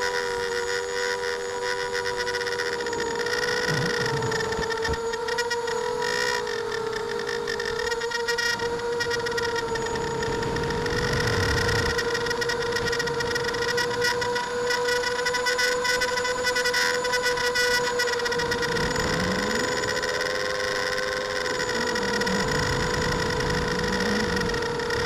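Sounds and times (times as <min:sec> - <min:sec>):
drone motors whining: 0:00.0 - 0:25.0
wind and vibration hiss: 0:00.0 - 0:25.0.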